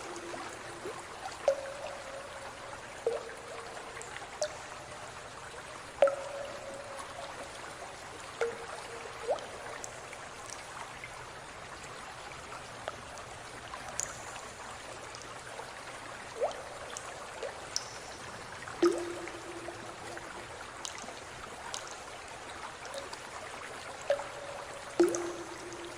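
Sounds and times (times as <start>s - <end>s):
water drips and plops: 0.0s - 25.9s
water trickling: 0.0s - 25.9s.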